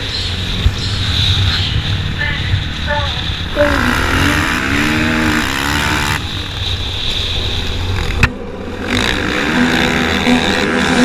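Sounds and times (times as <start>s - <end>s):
wind rushing noise: 0.0s - 11.0s
dirt bike engine revving: 1.4s - 11.0s.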